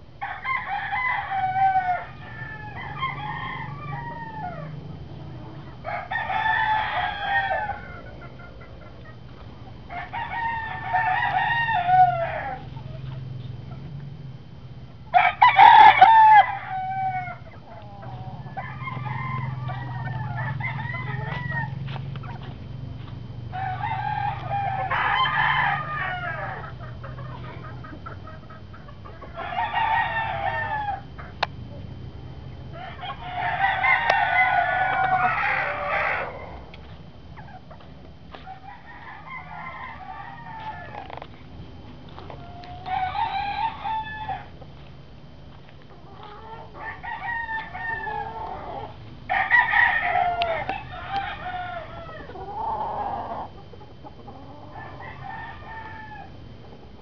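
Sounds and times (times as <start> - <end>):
faint low hum: 0.0 - 57.0
roosters crowing: 0.2 - 57.0.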